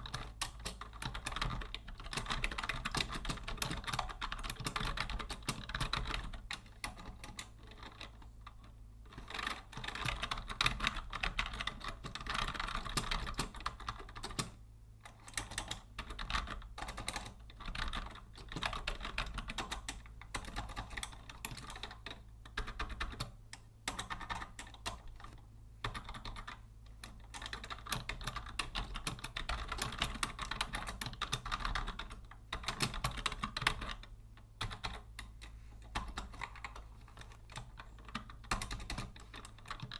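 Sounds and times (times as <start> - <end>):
faint low hum: 0.0 - 39.9
rapid keyboard typing: 0.0 - 39.9.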